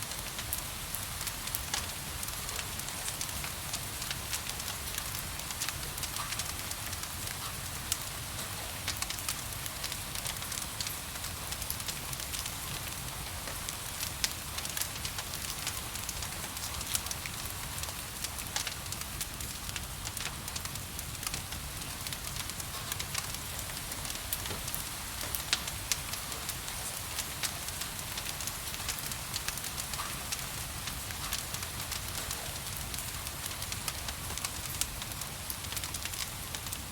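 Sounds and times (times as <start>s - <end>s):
gentle rain hiss: 0.0s - 36.9s
wood fire crackling and popping: 0.0s - 36.9s.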